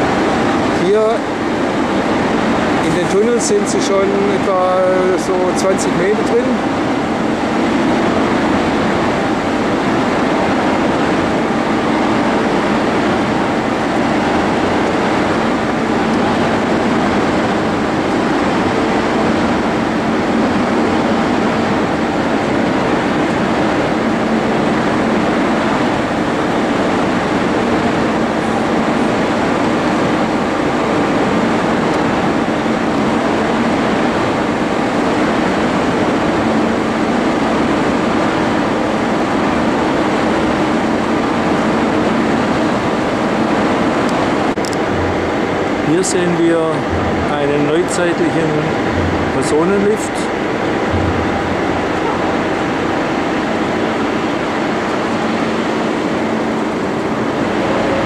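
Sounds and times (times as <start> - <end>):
loud machinery drone: 0.0 - 58.0.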